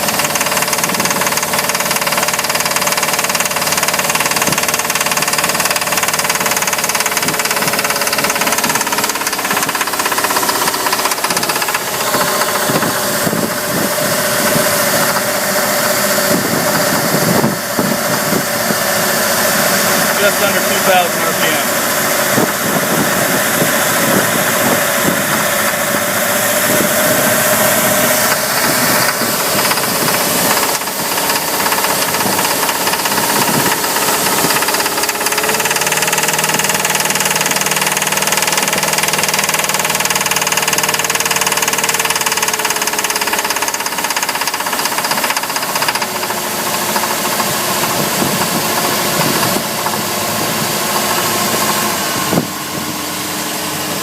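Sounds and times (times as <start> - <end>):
boat engine running with knock: 0.0 - 54.0.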